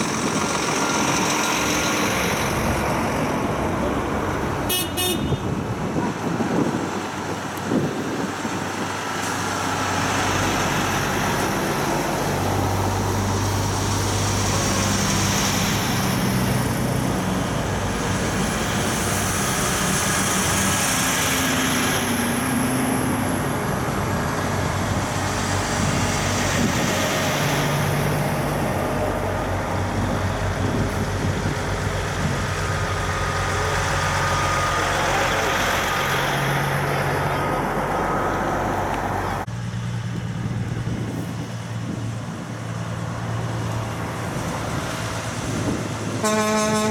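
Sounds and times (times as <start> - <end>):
cars passing: 0.0 - 46.9
diesel trucks driving past: 0.0 - 46.9.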